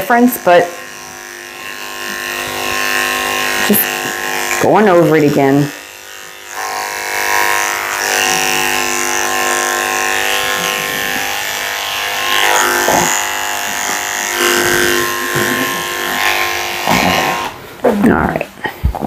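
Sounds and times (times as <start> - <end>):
electric clippers humming: 0.0 - 17.8.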